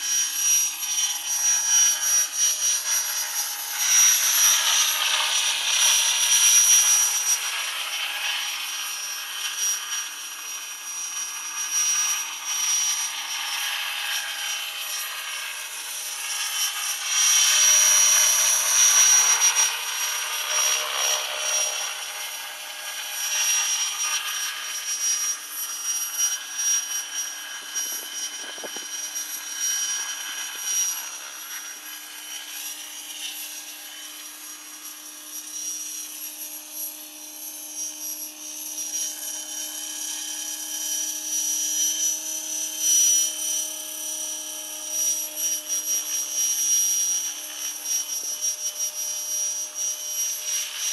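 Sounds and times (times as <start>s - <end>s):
model helicopter whine: 0.0s - 50.9s.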